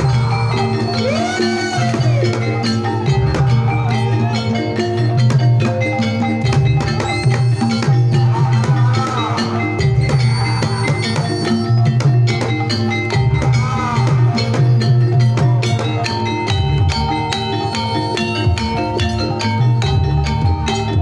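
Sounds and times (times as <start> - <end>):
mallet-struck keyed instruments: 0.0 - 21.0
pulsing low bass: 0.0 - 21.0.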